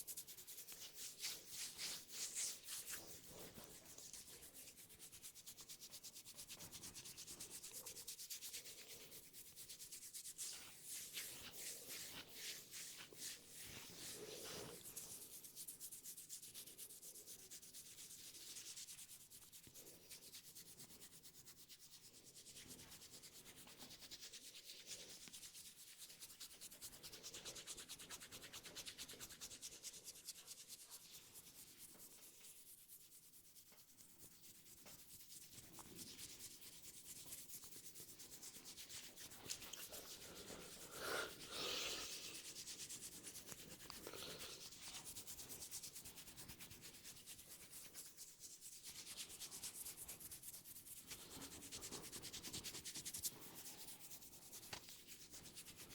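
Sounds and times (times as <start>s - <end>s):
hands rubbing hair and scalp: 0.0s - 55.9s.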